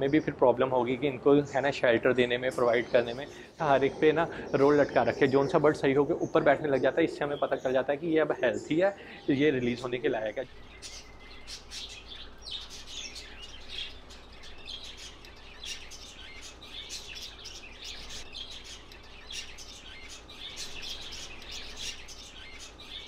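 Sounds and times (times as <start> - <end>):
small birds chirping and twittering: 0.0 - 23.0.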